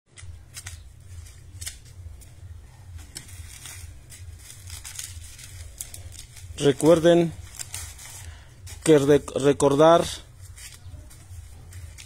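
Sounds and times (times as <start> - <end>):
corn husks crackling and tearing: 0.1 - 12.0.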